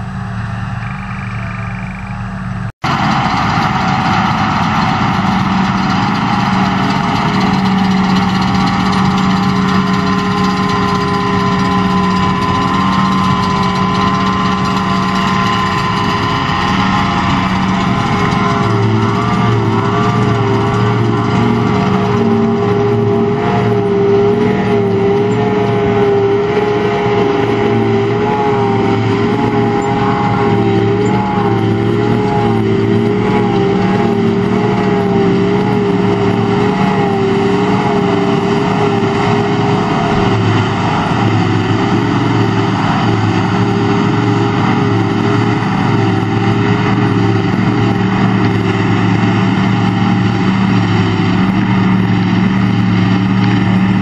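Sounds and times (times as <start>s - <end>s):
forage harvester droning: 0.0s - 54.0s
wavering machine whine: 0.0s - 54.0s.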